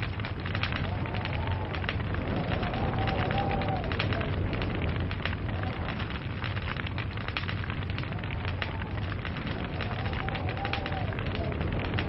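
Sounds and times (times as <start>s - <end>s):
log fire crackling: 0.0s - 12.0s
low rumble of burning wood: 0.0s - 12.0s.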